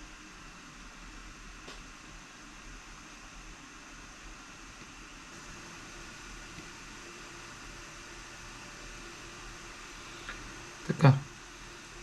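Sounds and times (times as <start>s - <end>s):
fan-like hiss: 0.0s - 12.0s.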